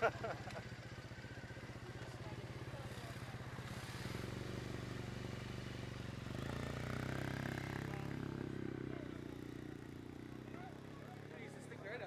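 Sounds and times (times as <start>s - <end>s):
motorcycle engine idling and revving: 0.6s - 11.3s.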